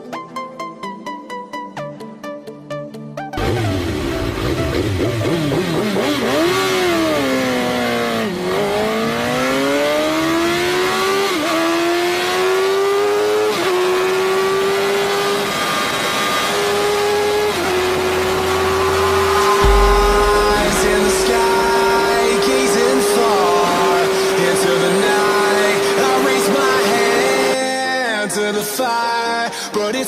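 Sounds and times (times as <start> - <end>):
motorcycle engine revving and accelerating: 3.4 - 27.6.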